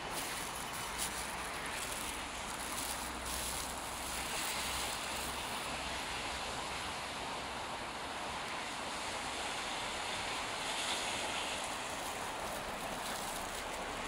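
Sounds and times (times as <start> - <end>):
rushing street noise: 0.0 - 14.0.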